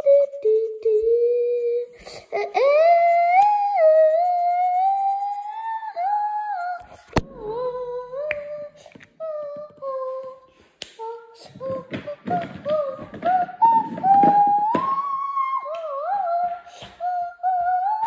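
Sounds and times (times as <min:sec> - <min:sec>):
person humming: 0:00.0 - 0:18.0.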